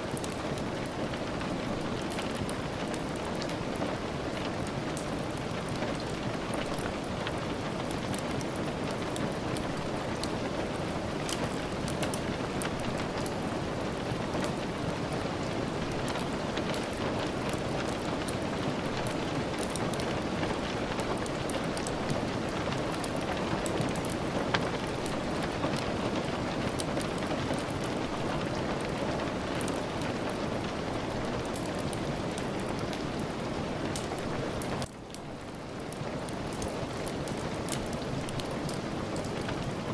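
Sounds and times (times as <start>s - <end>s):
sharp ticks of raindrops: 0.0s - 39.9s
steady rain falling: 0.0s - 39.9s.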